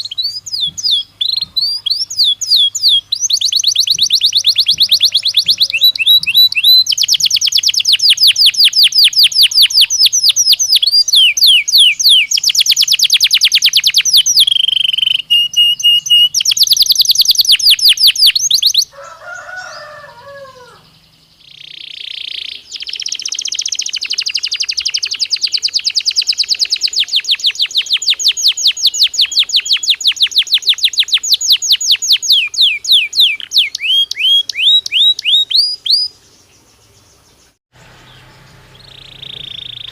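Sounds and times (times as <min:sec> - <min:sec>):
lower sweeping bird notes: 0:00.0 - 0:18.9, 0:19.7 - 0:39.9
canary trilling: 0:00.0 - 0:36.2, 0:38.0 - 0:39.9.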